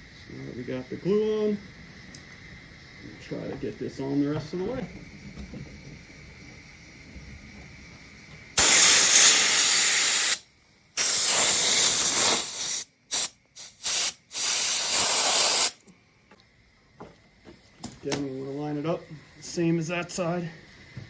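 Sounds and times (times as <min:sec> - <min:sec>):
compressed air hissing: 0:00.0 - 0:16.2, 0:18.1 - 0:21.0.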